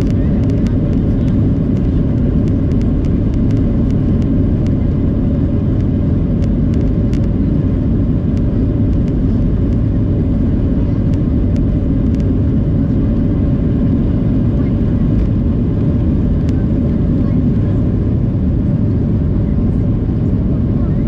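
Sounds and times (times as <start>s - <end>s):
jet engines and airflow rumble: 0.0s - 21.0s
steady hum: 0.0s - 21.0s.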